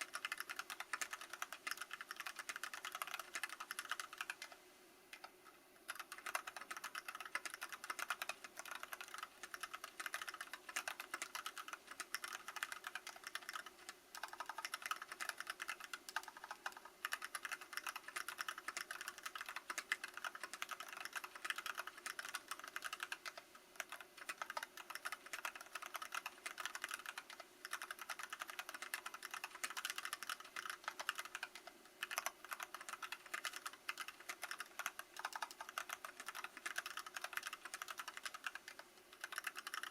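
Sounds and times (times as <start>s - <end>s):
fast typing on mechanical keyboard: 0.0s - 4.6s, 5.9s - 39.9s.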